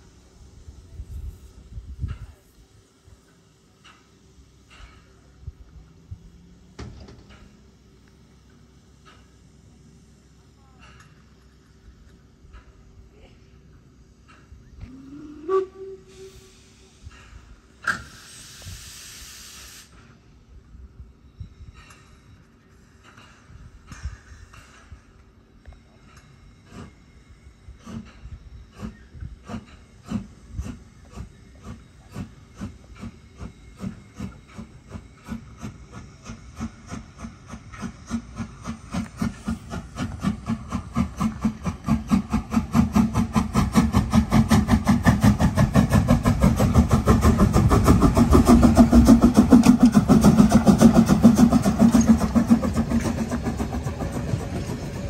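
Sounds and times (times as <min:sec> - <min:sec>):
steam locomotive exhaust chuffs: 0:00.0 - 0:55.0.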